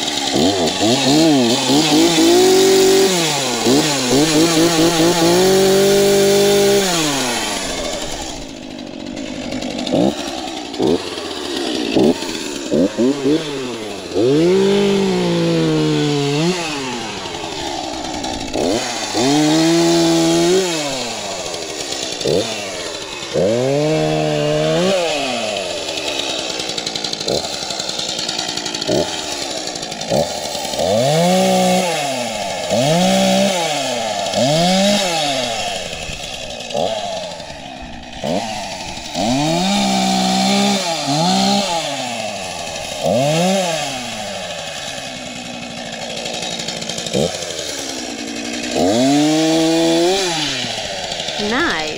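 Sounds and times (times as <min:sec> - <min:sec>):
chainsaw engine revving: 0:00.0 - 0:51.9.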